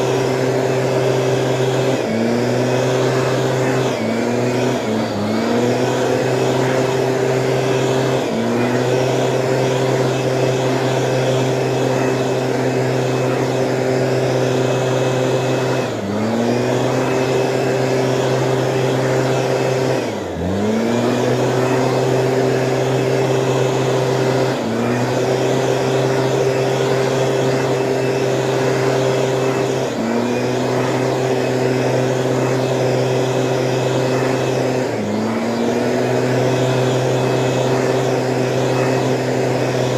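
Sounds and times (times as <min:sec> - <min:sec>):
two-stroke engine running high: 0:00.0 - 0:39.9.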